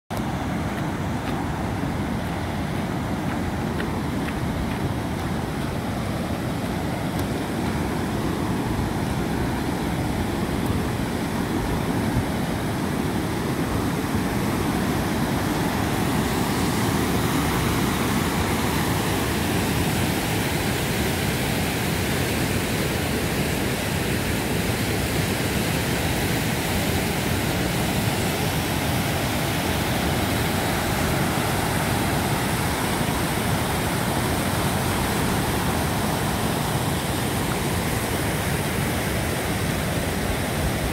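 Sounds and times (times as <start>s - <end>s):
water rushing over a weir: 0.1s - 40.9s.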